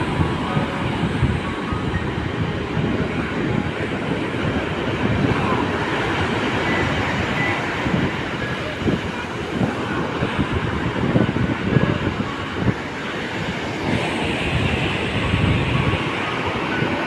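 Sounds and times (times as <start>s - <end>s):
sea surf rushing: 0.0s - 17.0s
wind buffeting microphone: 0.0s - 17.0s.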